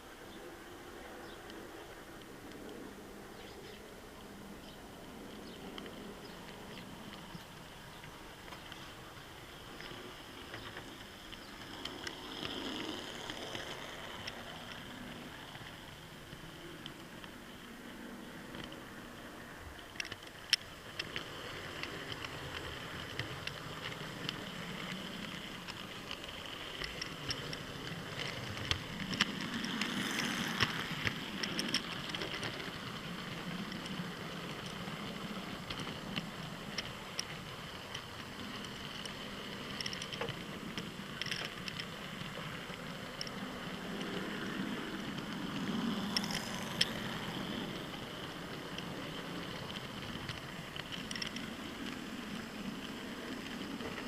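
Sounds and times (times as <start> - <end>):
model train motor hum: 0.0 - 54.0
small clicks over rails: 0.0 - 54.0.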